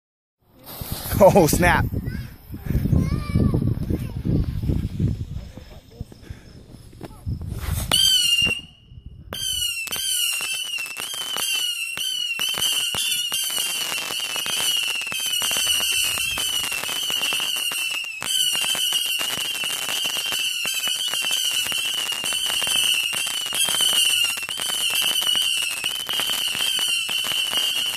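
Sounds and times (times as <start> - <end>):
firework whistles: 0.6 - 2.2, 7.1 - 27.9.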